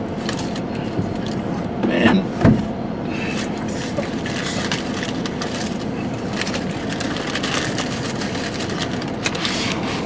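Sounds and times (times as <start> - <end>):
steady hiss inside a car: 0.0 - 10.0
crackling and rustling: 0.1 - 1.5, 3.3 - 10.0.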